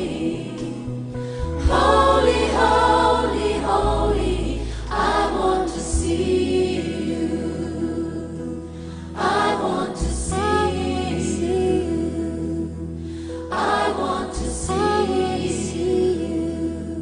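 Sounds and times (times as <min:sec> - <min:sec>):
choir singing gospel: 0:00.0 - 0:17.0
long held bass notes: 0:00.0 - 0:17.0.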